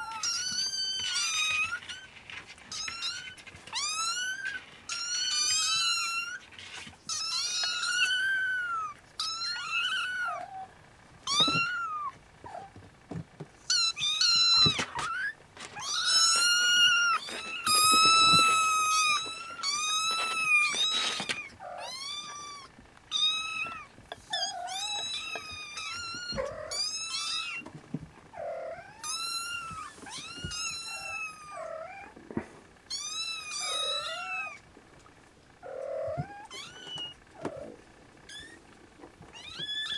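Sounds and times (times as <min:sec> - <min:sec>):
kittens meowing: 0:00.0 - 0:02.1, 0:02.7 - 0:12.8, 0:13.6 - 0:27.7, 0:28.3 - 0:32.2, 0:32.9 - 0:34.6, 0:35.6 - 0:39.9.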